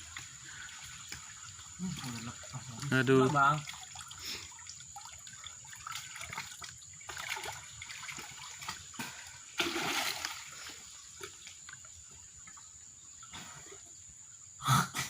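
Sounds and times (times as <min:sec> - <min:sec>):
shallow water splashing: 0:00.0 - 0:13.8.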